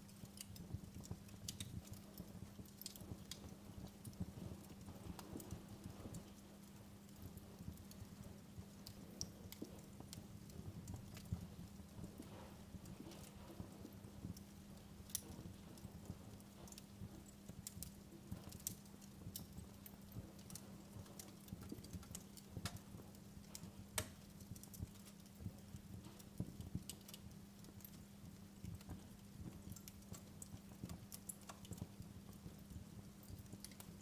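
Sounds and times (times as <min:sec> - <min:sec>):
low steady hum: 0:00.0 - 0:34.0
wood fire crackling: 0:00.0 - 0:34.0.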